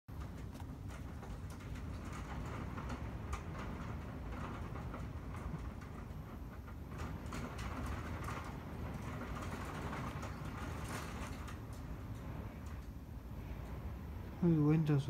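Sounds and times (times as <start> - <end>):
heavy rain on windows: 0.1 - 15.0.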